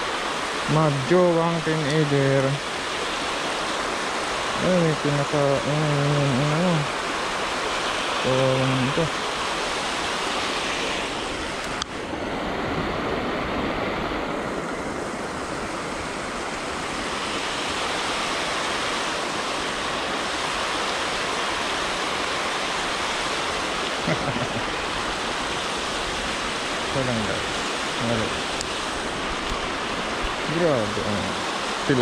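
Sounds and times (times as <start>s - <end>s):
river water rushing over weir: 0.0s - 32.0s.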